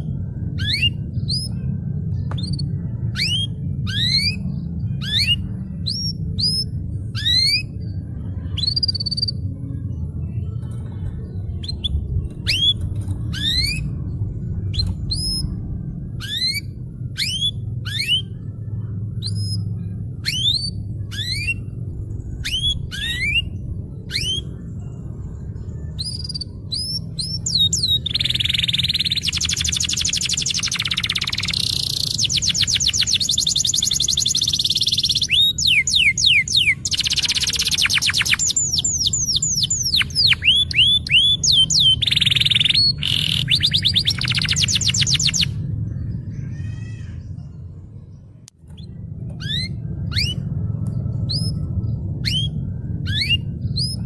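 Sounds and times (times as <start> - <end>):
canary singing: 0.0 - 47.7, 48.7 - 54.0
steady low hum: 0.0 - 54.0.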